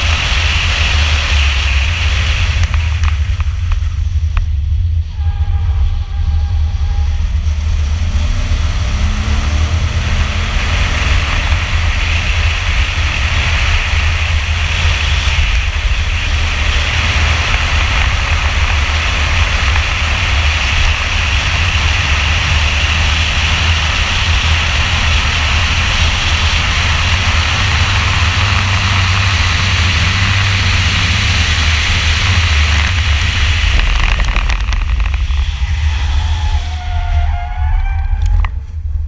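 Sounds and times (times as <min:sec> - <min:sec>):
car engine at full throttle: 0:00.0 - 0:39.0
road noise: 0:00.0 - 0:39.0
wind noise: 0:00.0 - 0:39.0.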